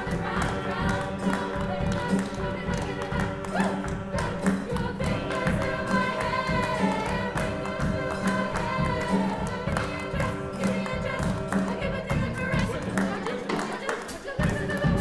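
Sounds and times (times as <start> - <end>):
choir singing: 0.0 - 15.0
hand claps: 0.0 - 15.0.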